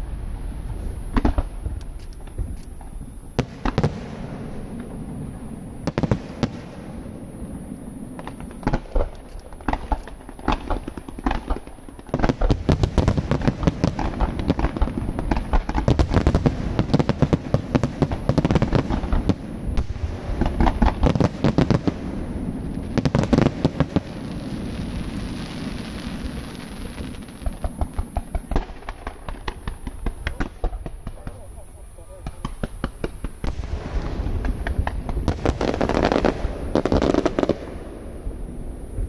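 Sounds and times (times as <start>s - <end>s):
fireworks bursts and bangs: 0.0s - 39.0s
fireworks hissing crackle: 0.0s - 39.0s
fireworks pops: 1.1s - 4.2s, 8.2s - 22.0s, 23.0s - 37.7s.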